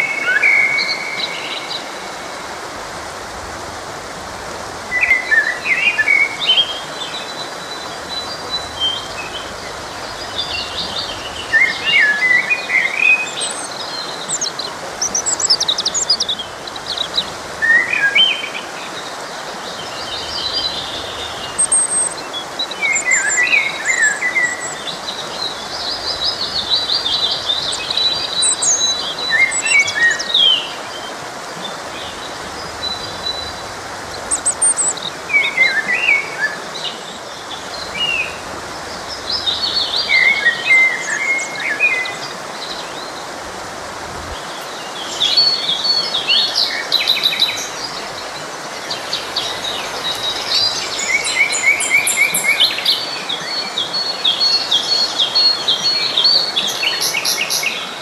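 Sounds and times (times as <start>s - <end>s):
forest stream flowing: 0.0s - 58.0s
songbirds chirping: 0.0s - 58.0s.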